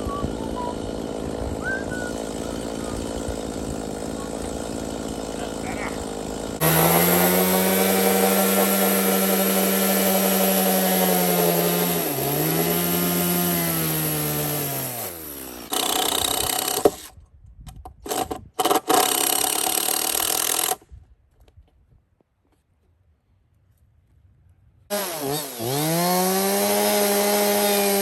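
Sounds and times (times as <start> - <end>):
chainsaw sawing wood: 0.0 - 17.2, 17.9 - 20.8, 24.9 - 28.0.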